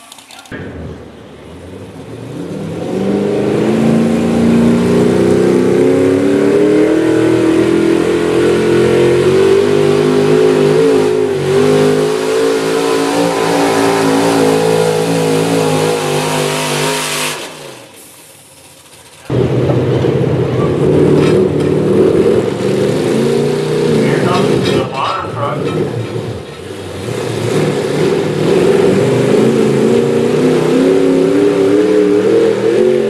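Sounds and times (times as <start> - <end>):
engine running hard under load: 0.0 - 33.0.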